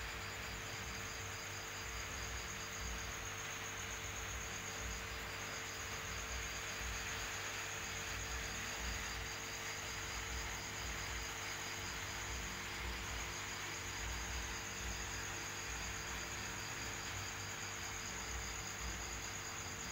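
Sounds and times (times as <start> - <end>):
constant hiss: 0.0 - 19.9
insects chirping: 0.0 - 19.9.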